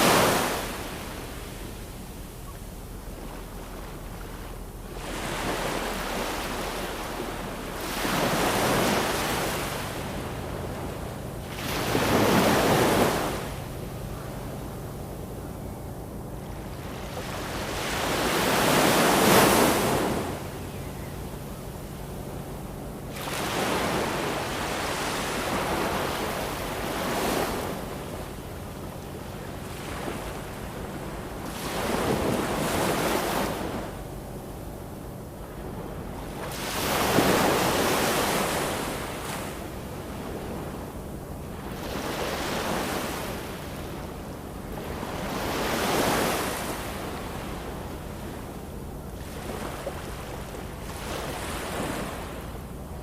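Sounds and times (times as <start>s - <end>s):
ocean waves washing: 0.0s - 53.0s.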